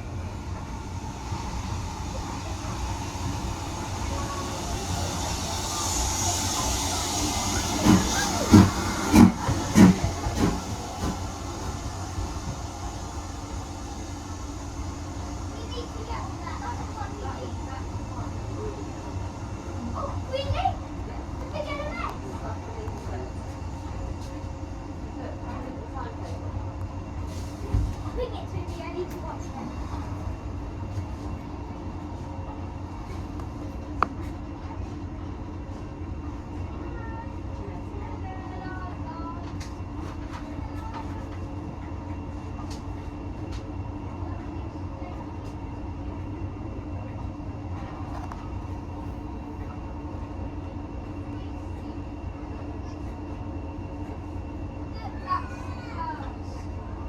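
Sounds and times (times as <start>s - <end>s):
loud locomotive beats: 0.0s - 57.0s
steam locomotive hissing: 0.0s - 57.0s.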